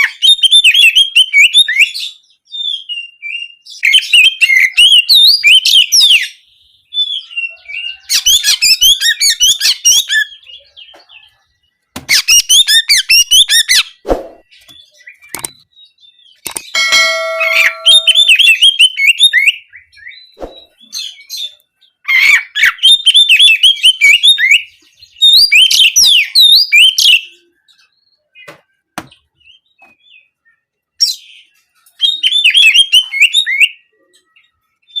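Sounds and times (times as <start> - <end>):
bird singing twittering phrases: 0.0 - 35.0.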